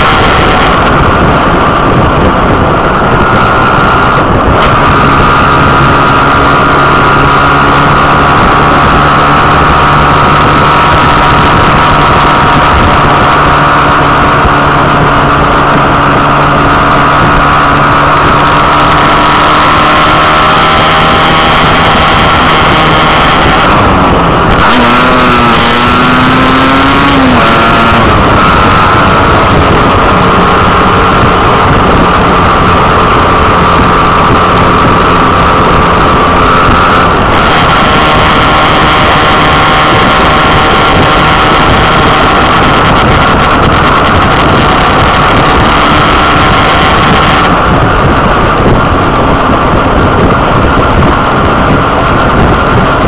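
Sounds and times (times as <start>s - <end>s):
motorcycle engine cruising: 0.0s - 53.0s
wind noise on microphone: 0.0s - 53.0s.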